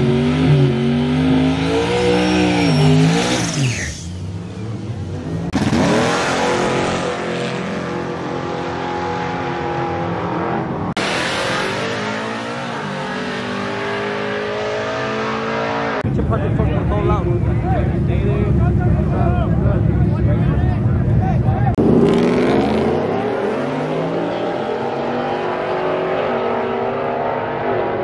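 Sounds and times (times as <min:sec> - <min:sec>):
truck engines revving and accelerating: 0:00.0 - 0:28.0.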